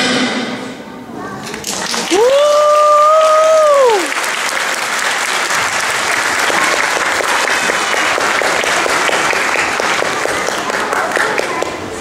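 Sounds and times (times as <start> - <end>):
audience applauding: 1.5 - 11.8.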